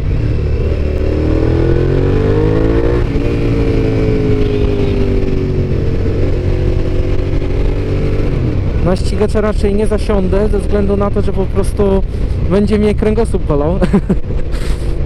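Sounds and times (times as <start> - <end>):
motorcycle engine accelerating: 0.0 - 15.0
wind rumble: 0.0 - 15.0.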